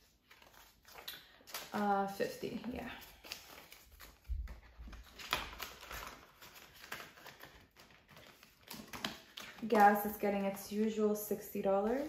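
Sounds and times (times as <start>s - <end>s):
banknotes rustling: 0.0s - 12.0s
plastic envelope crinkling: 0.0s - 12.0s.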